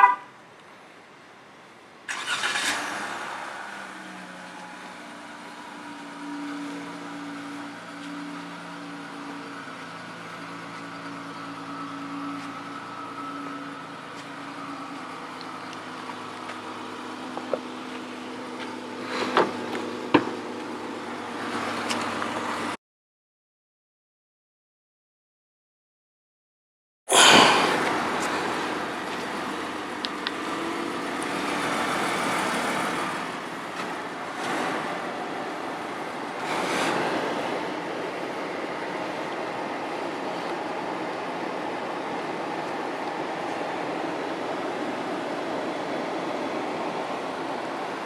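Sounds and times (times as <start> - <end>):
car engine starting and idling: 2.0 - 22.8, 27.2 - 45.2.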